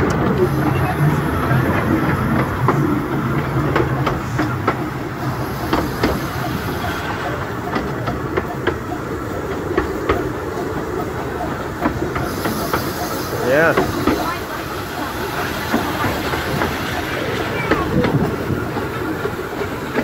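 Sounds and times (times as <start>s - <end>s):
train rumble: 0.0s - 20.0s
wheels clicking over rails: 0.0s - 20.0s.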